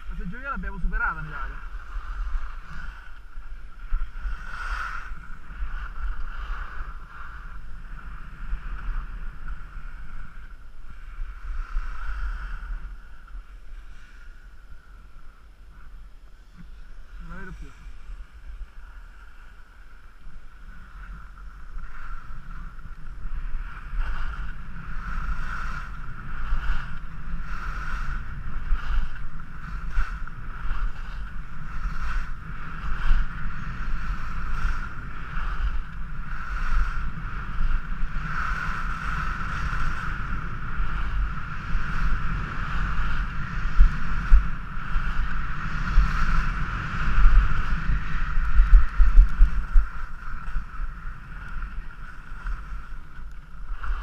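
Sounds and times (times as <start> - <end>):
skis scraping over snow: 0.0 - 54.0
wind rushing on microphone: 0.0 - 54.0.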